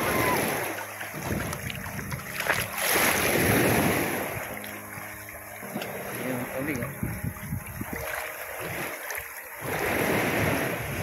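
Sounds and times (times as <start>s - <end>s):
wind noise on microphone: 0.0s - 4.7s, 5.4s - 11.0s
sea water washing: 0.0s - 11.0s.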